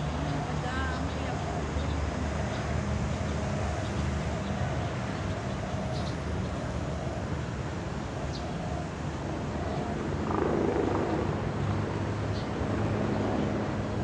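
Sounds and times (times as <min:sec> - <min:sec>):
outdoor harbourside noise: 0:00.0 - 0:14.0.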